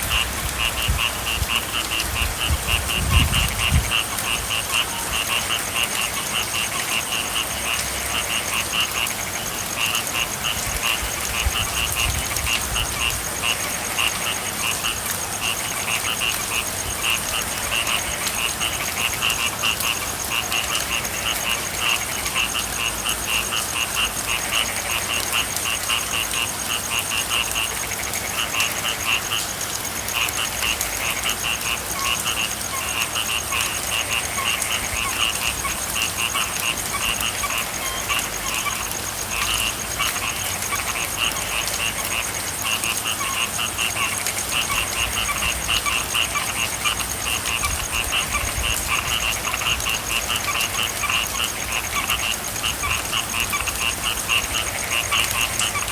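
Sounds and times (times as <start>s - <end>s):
frogs croaking: 0.0s - 55.9s.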